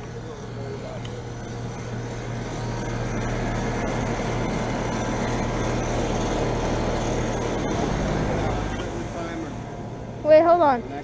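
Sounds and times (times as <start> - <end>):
compressor hum: 0.0 - 11.0
fan rushing: 0.0 - 11.0.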